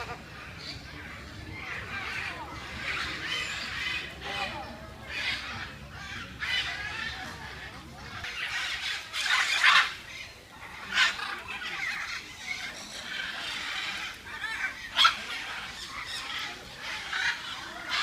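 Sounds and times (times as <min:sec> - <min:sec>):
birds chattering: 0:00.0 - 0:18.0
loud harsh bird calls: 0:00.0 - 0:18.0.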